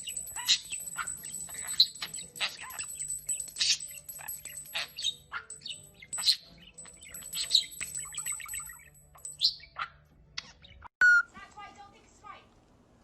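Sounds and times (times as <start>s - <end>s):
bird chirping: 0.0s - 10.9s.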